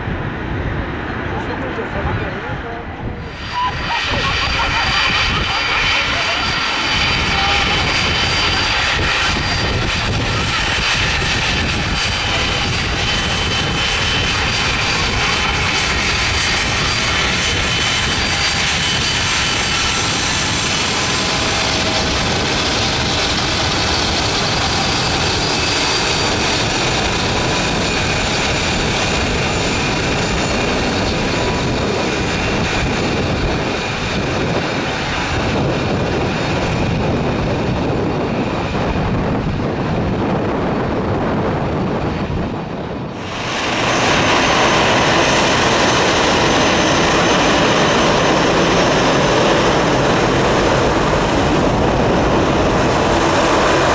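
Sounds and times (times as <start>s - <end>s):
jet airliner taxiing: 0.0s - 53.9s
loud jet noise: 0.0s - 53.9s.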